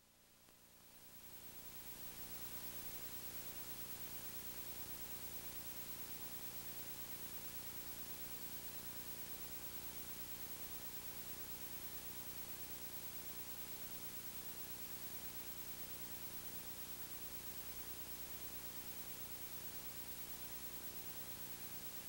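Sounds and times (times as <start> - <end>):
tape hiss: 0.0 - 22.0.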